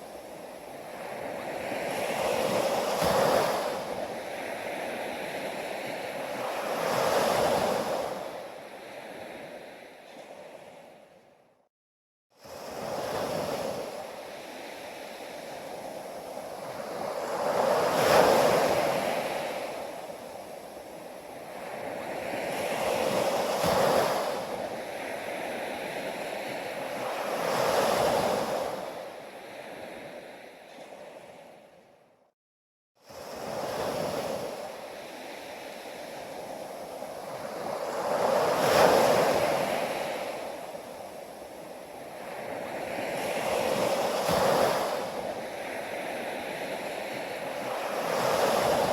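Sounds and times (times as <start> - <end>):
sea waves breaking on a beach: 0.0 - 11.3, 12.4 - 31.9, 33.0 - 48.9.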